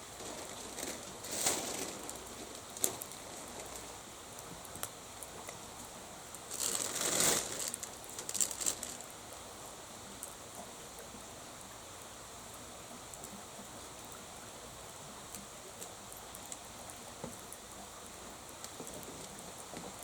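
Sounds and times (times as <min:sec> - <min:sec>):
campfire crackling and hissing: 0:00.0 - 0:20.0.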